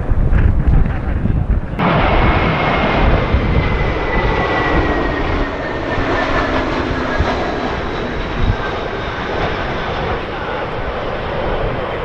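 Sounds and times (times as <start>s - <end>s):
jet engines rumbling and whining: 0.0s - 12.0s
wind buffeting microphone: 0.0s - 12.0s.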